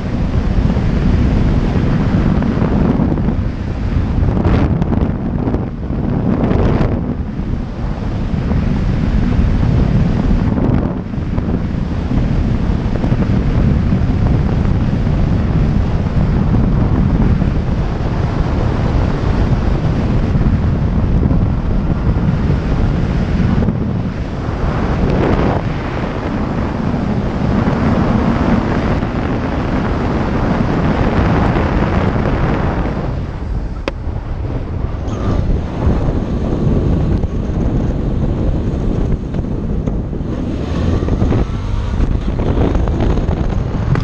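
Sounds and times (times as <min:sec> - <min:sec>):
motorcycle engine: 0:00.0 - 0:44.0
road noise: 0:00.0 - 0:44.0
wind buffeting microphone: 0:00.0 - 0:44.0.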